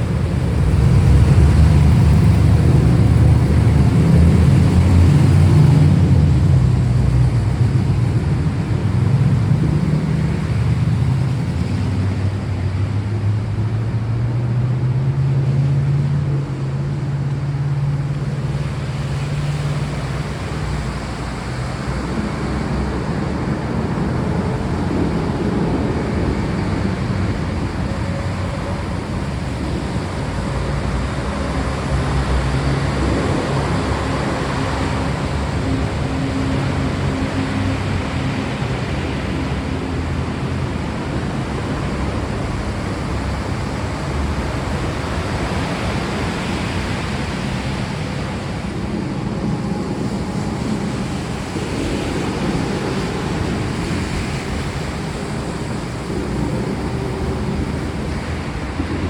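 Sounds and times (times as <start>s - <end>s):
steady rain: 0.0s - 59.0s
thunder rumble: 0.0s - 59.0s.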